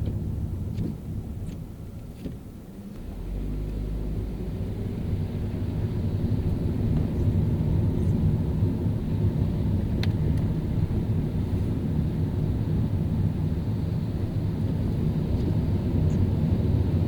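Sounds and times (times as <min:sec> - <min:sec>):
car driving on wet road: 0:00.0 - 0:17.0.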